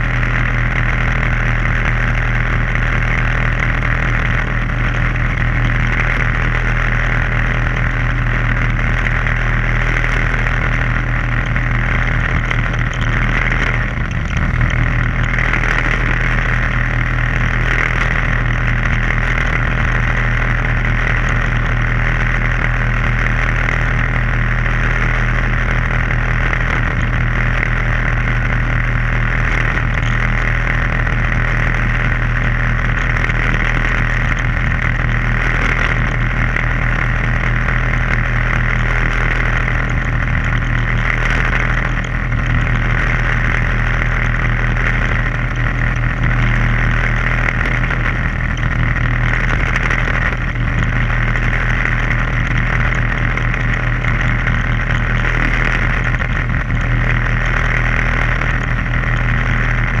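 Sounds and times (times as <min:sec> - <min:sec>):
boat engine drone: 0:00.0 - 1:00.0.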